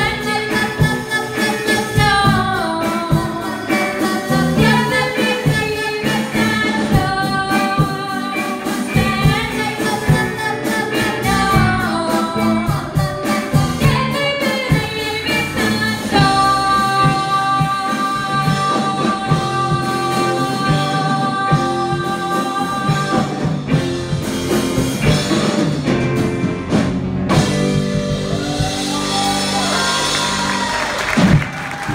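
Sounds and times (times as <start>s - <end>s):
live rock band with vocals: 0.0s - 31.9s.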